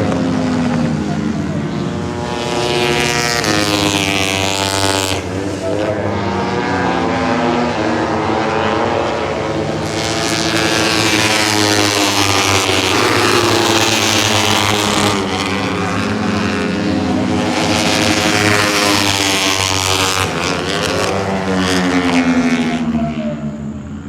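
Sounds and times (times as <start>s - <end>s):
racing motorcycles passing at high revs: 0.0s - 24.0s.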